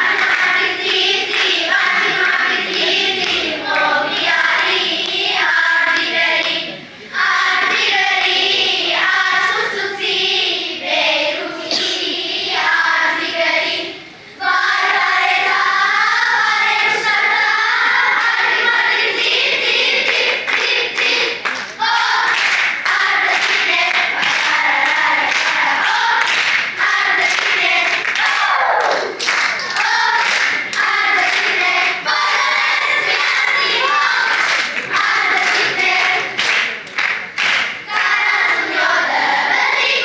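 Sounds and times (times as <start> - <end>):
children singing together: 0.0 - 36.8, 37.4 - 40.0.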